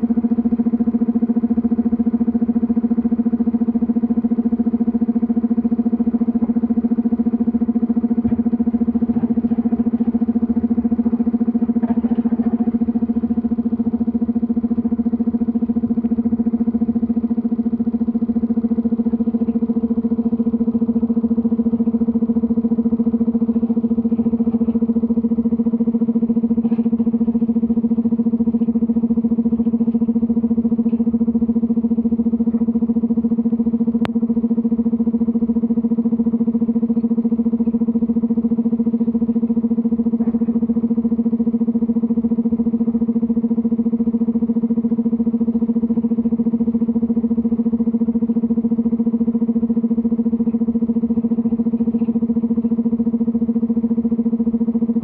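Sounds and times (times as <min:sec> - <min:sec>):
excavator diesel engine drone: 0:00.0 - 0:55.0.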